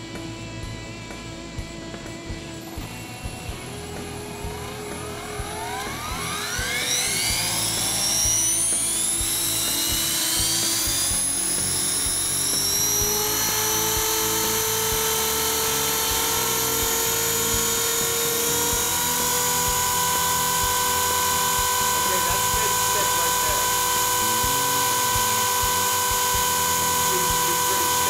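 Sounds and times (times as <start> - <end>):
rc helicopter motor whine: 0.0 - 28.0.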